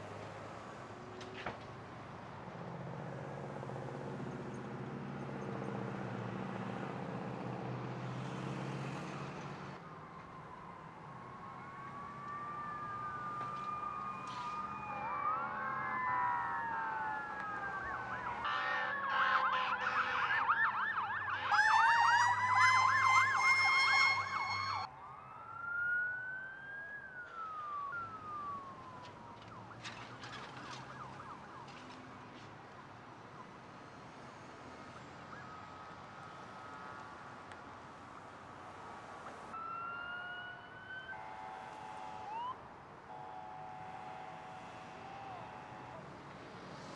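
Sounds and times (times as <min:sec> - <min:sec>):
emergency vehicle sirens wailing: 0:00.0 - 0:46.9.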